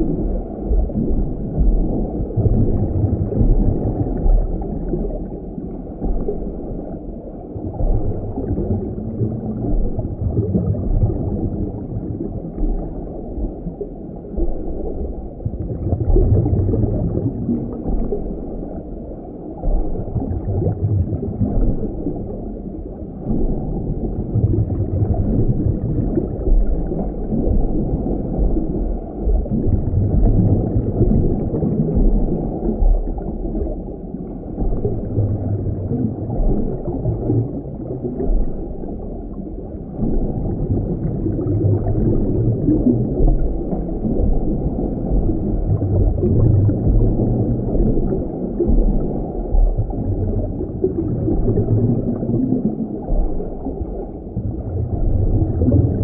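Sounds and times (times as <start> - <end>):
muffled underwater water rumble: 0.0 - 56.0.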